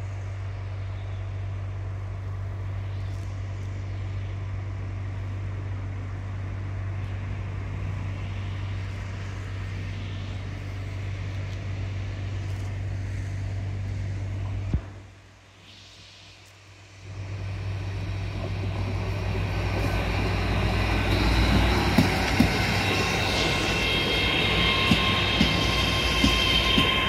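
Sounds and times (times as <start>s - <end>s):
train rumbling: 0.0s - 27.0s
wheels hissing on rails: 0.0s - 27.0s.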